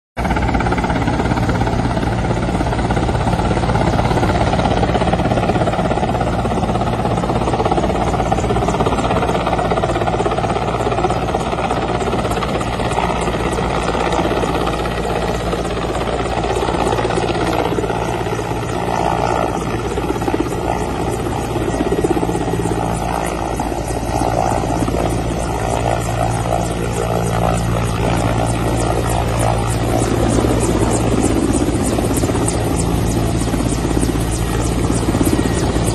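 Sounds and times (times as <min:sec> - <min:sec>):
helicopter rotor and engine drone: 0:00.2 - 0:35.9.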